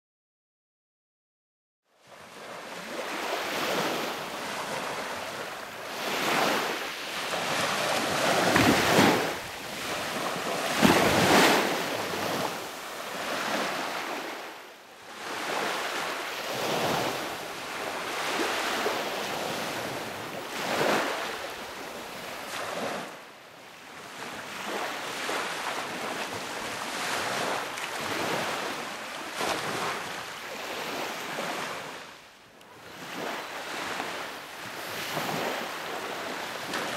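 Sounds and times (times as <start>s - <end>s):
sea waves breaking on shore: 2.0s - 36.9s.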